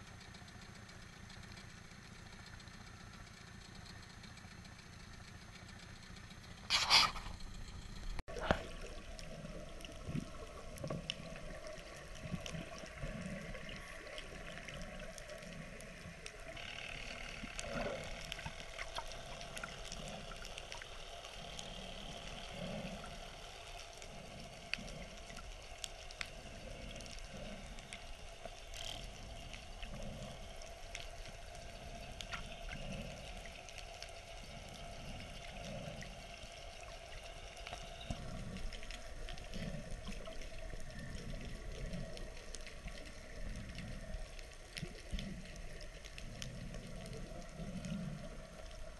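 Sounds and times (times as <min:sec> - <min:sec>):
sharp clicks and crackles: 0:00.0 - 0:48.9
muffled underwater sloshing: 0:00.1 - 0:48.9.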